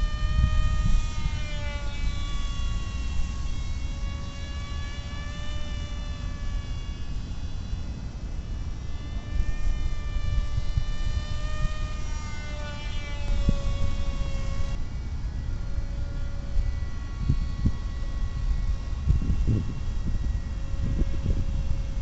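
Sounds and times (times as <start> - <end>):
model aircraft motor whine: 0.0 - 22.0
wind rumble on microphone: 0.0 - 22.0.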